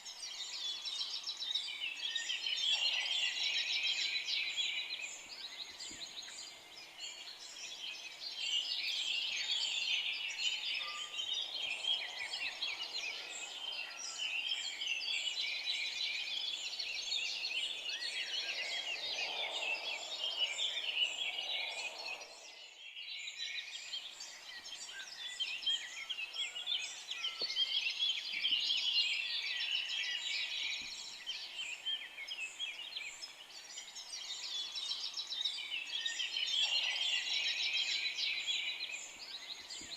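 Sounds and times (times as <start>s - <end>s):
chorus of songbirds singing: 0.0s - 39.9s.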